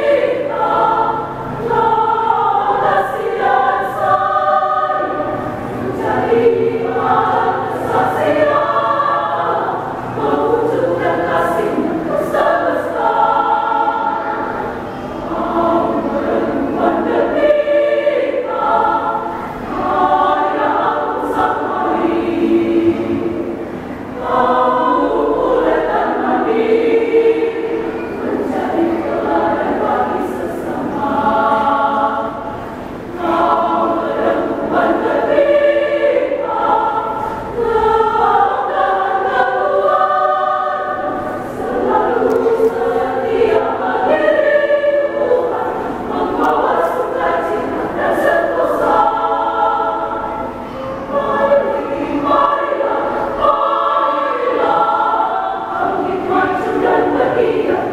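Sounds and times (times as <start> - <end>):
women's choir singing in harmony: 0.0 - 57.9.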